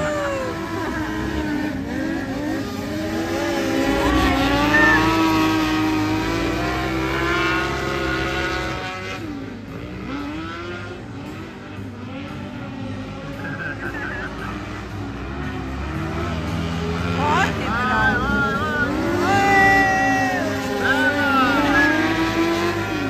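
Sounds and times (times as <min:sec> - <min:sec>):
small engines revving: 0:00.0 - 0:23.0.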